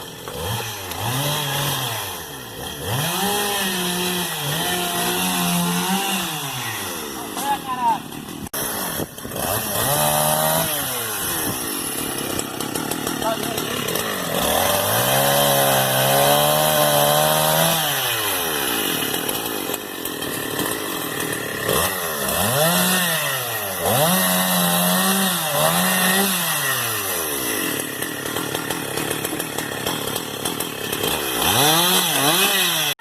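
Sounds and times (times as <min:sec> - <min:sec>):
chainsaw revving: 0:00.0 - 0:33.0.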